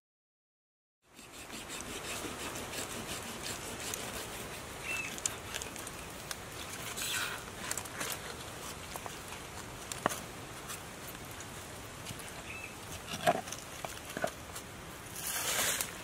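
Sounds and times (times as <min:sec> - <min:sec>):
quiet hiss: 0:01.1 - 0:16.0.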